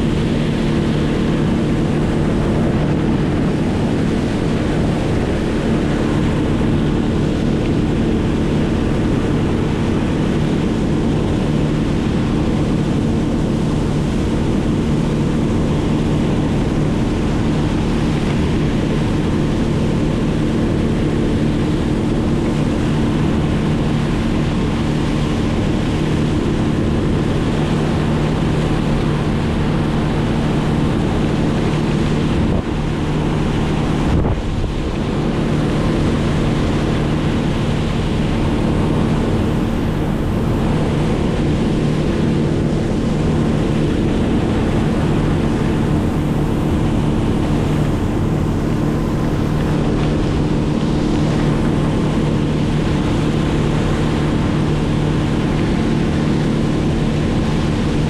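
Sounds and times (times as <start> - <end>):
engine running steadily: 0.0 - 58.0
wind on microphone: 0.0 - 58.0.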